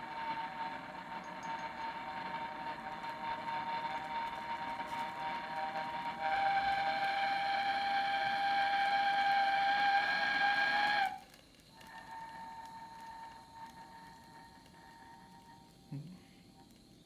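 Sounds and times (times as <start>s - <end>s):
gas torch whistling: 0.0s - 17.0s.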